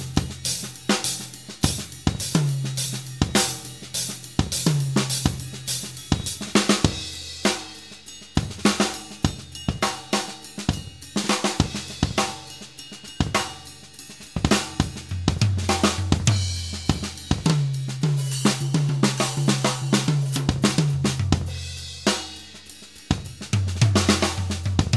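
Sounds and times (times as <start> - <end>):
drum kit groove: 0.0 - 24.9.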